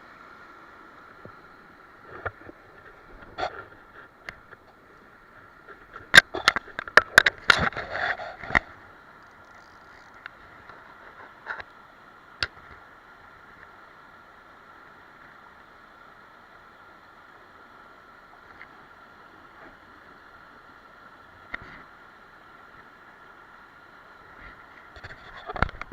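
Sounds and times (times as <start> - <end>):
stream flowing over rocks: 0.0 - 25.9.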